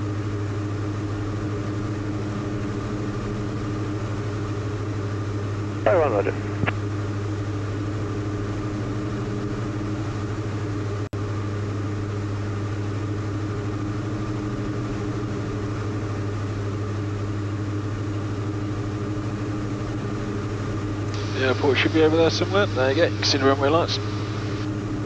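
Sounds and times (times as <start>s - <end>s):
aircraft engine drone in cabin: 0.0s - 25.0s.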